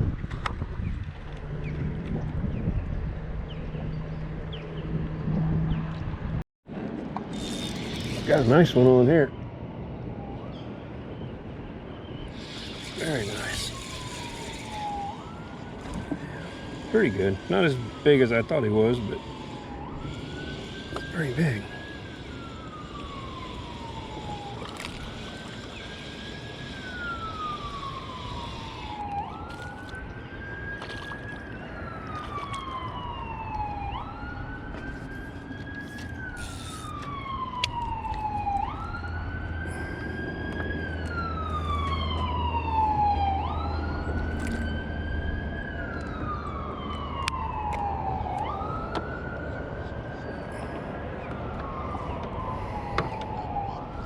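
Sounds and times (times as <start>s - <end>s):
siren wailing: 7.4s - 9.3s, 10.0s - 10.7s, 12.3s - 54.0s.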